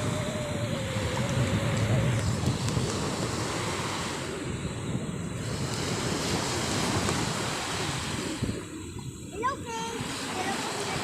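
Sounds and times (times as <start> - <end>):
sea waves washing: 0.0 - 11.0
wind buffeting microphone: 0.0 - 11.0.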